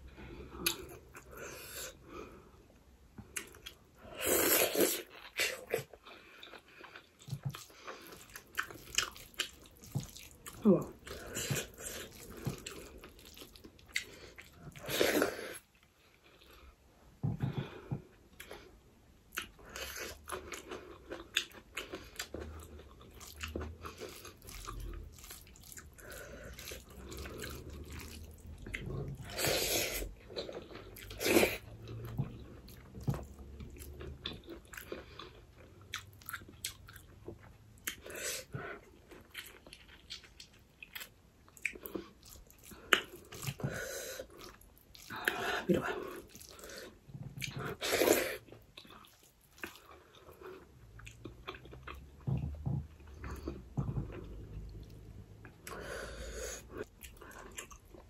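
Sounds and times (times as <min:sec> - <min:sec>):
person chewing: 0:00.3 - 0:02.0, 0:03.2 - 0:16.8, 0:17.5 - 0:58.0.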